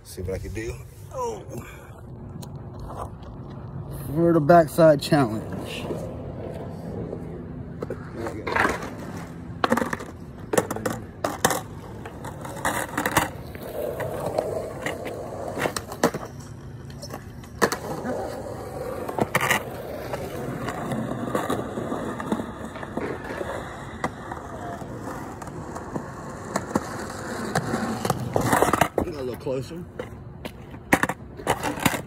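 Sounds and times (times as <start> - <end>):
skateboard rolling on concrete: 1.9 - 32.0
skateboard clacking on ground: 5.4 - 32.0.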